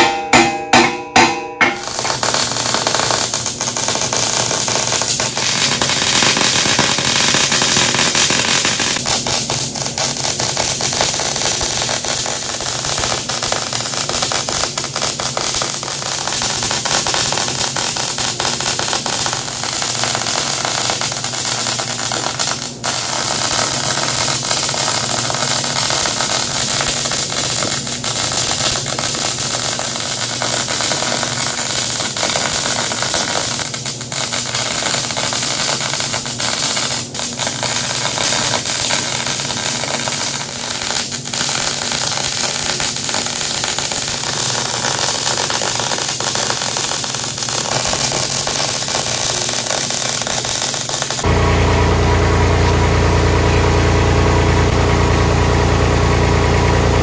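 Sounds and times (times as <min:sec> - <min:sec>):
arc welding crackling sizzle: 0:01.8 - 0:56.7.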